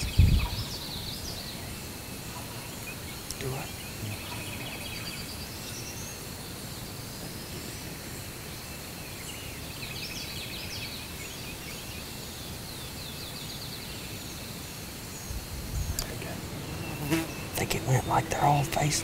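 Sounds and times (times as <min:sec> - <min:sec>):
background hiss: 0:00.0 - 0:19.0
faint high insect drone: 0:00.0 - 0:19.0
small songbirds singing: 0:00.0 - 0:19.0.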